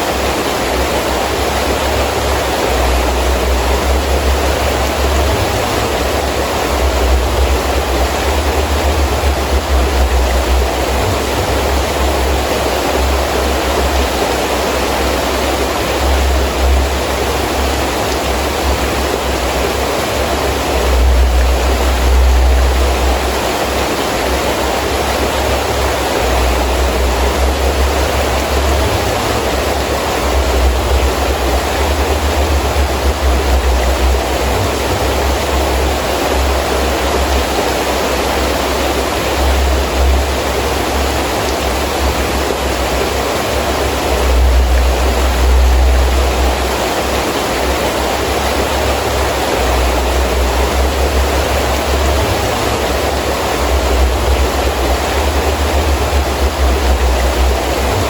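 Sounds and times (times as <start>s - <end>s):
gusting wind rumble: 0.0s - 58.0s
heavy rain falling: 0.0s - 58.0s.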